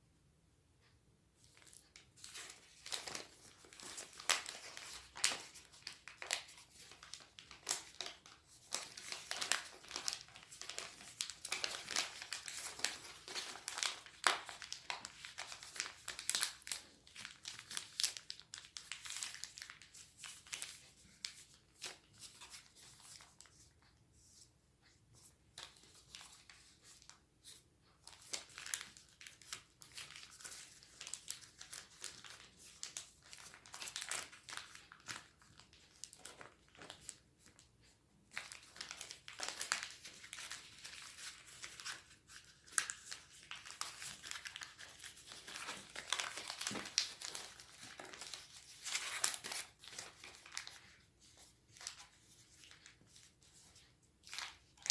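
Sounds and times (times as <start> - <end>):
paper folding and crinkling: 1.4 - 54.9.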